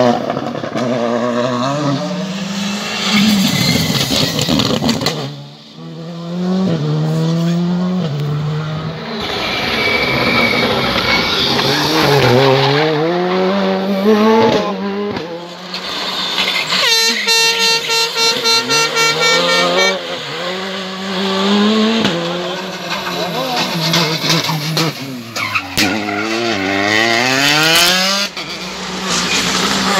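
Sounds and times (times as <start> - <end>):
rally car engines revving: 0.0 - 29.9.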